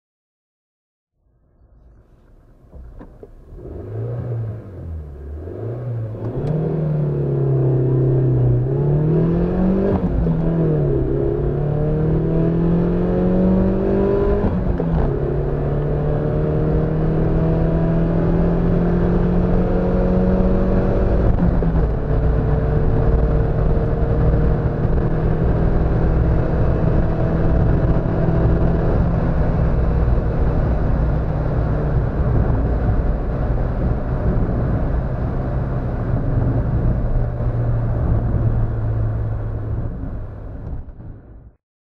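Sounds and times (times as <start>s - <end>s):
car engine accelerating: 1.4s - 41.2s.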